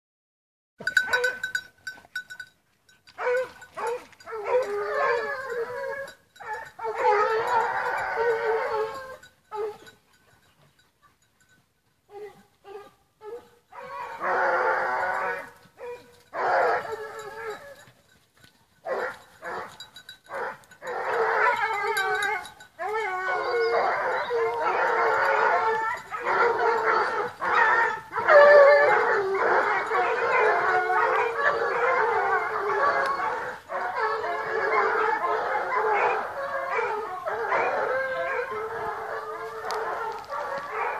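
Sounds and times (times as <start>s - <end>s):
hounds barking and yelping: 0.8s - 40.9s
pack of hounds in full cry: 0.9s - 1.7s, 3.1s - 11.2s, 12.1s - 18.0s, 18.8s - 40.9s.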